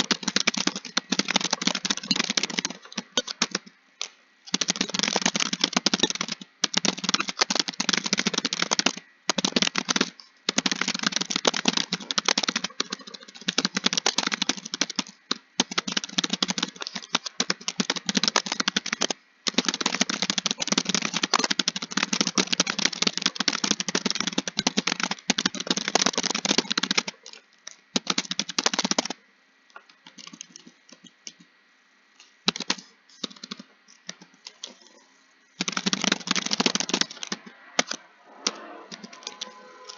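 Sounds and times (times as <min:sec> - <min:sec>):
computer keyboard typing: 0:00.0 - 0:29.2, 0:30.0 - 0:31.5, 0:32.5 - 0:35.0, 0:35.6 - 0:39.9.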